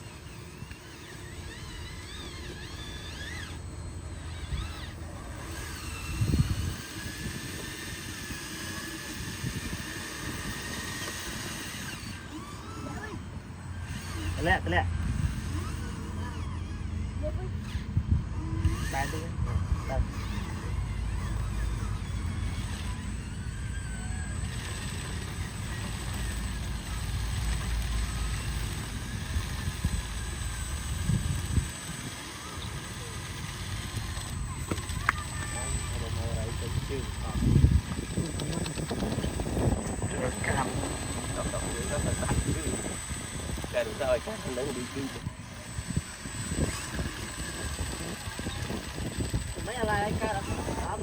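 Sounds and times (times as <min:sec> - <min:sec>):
electric motor whining: 0:00.0 - 0:51.0.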